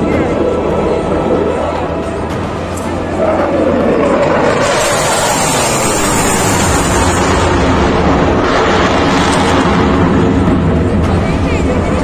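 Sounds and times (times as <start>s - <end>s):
jet engines flying overhead: 0.0s - 12.0s.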